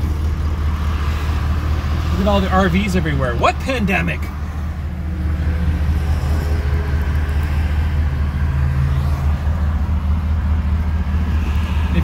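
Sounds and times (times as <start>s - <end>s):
car engine running: 0.0s - 12.0s
tyres on the road: 0.0s - 12.0s.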